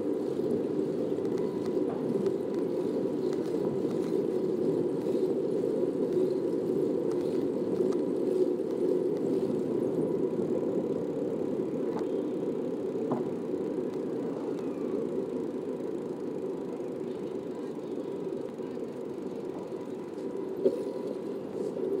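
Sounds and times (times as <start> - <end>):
bicycle rolling on stone paving: 0.0 - 22.0
faint ticks: 0.0 - 22.0.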